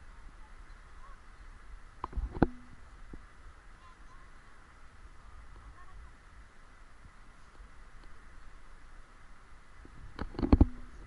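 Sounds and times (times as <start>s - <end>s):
steady outdoor hiss: 0.0s - 11.0s
wind rumbling on microphone: 0.0s - 11.0s.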